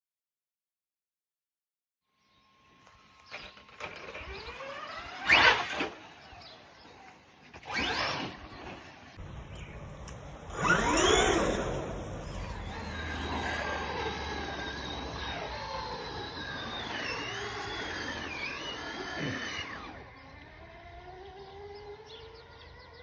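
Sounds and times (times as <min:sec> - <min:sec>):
electric motor whining: 0:02.3 - 0:09.2, 0:10.5 - 0:23.0.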